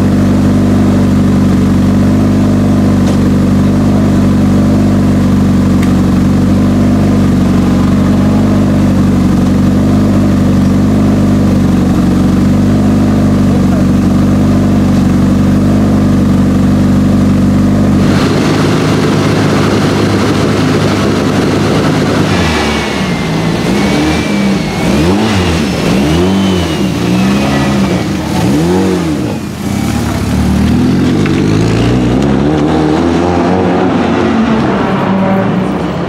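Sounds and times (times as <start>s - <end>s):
car engine revving: 0.0s - 36.0s
car engine running steadily: 0.0s - 36.0s.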